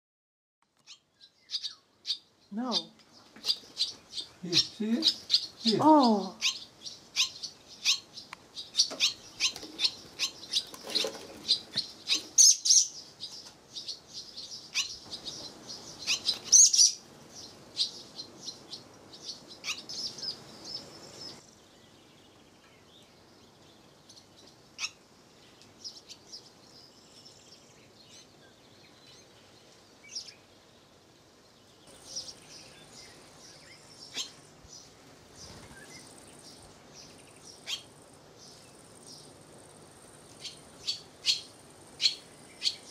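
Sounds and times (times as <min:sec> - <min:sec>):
swallows twittering: 0:00.8 - 0:42.9.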